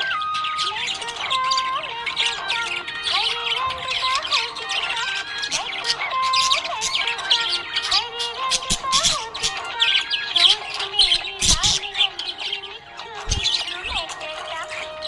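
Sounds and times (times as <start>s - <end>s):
budgies chirping: 0.0s - 15.0s.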